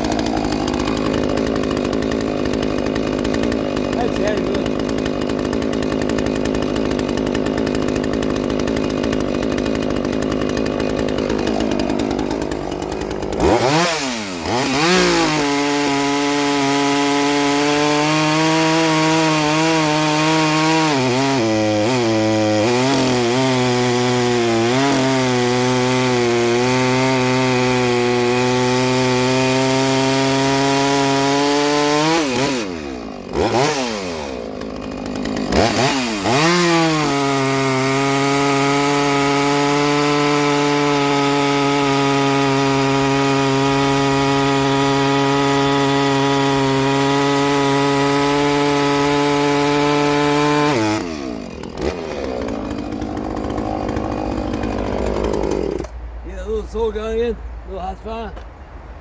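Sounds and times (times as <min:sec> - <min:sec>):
chainsaw cutting wood: 0:00.0 - 0:57.3.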